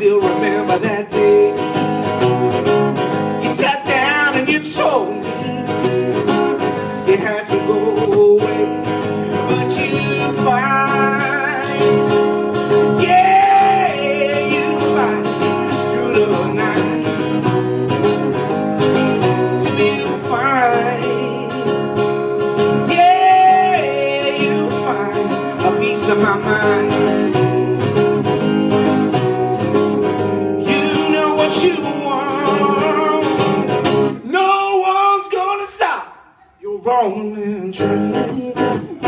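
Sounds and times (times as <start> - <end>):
man singing: 0.0 - 28.4, 30.1 - 39.0
acoustic guitar strumming blues: 0.0 - 39.0.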